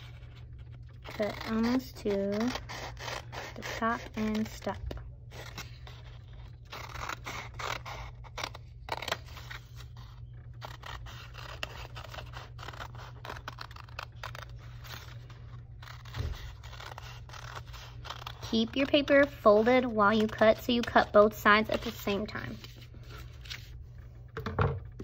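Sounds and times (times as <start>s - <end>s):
scissors cutting paper: 0.0s - 23.7s.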